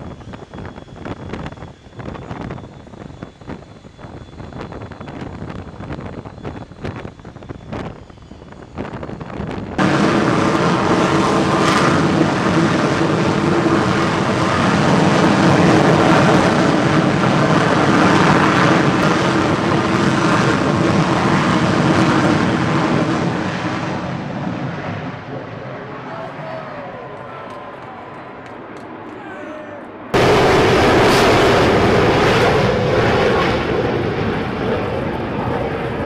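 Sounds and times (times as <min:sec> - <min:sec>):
jet engine roar: 0:00.0 - 0:36.0.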